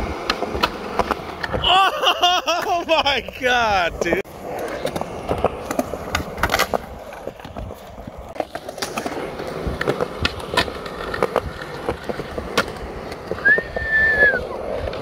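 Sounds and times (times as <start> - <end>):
skateboard popping and landing: 0.0 - 15.0
skateboard trucks grinding ledge: 0.0 - 15.0
skateboard wheels rolling on concrete: 0.0 - 15.0.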